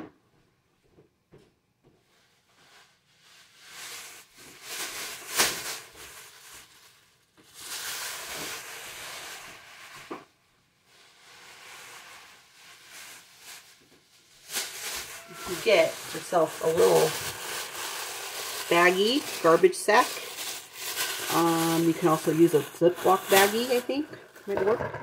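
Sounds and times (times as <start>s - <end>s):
plastic bag rustling: 3.1s - 10.0s, 10.8s - 25.0s.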